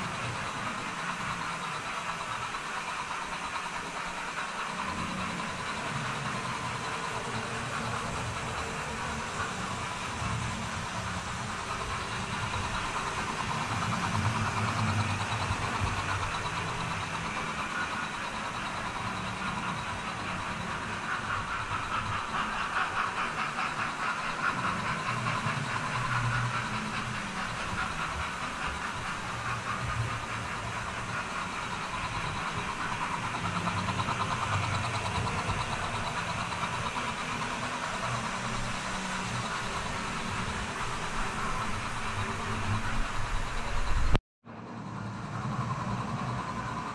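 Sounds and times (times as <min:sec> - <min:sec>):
model train motor hum: 0:00.0 - 0:44.2, 0:45.0 - 0:46.9
wheels clattering on track: 0:00.0 - 0:44.2.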